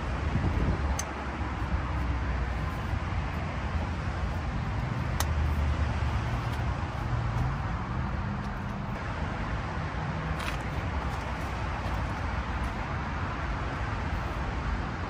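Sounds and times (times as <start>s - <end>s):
highway traffic rumble: 0.0s - 15.0s.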